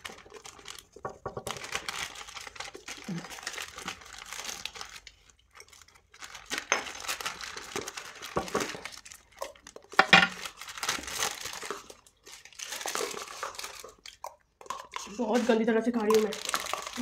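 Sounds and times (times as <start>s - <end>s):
paper wrapper crinkling: 0.0s - 14.2s, 15.0s - 17.0s.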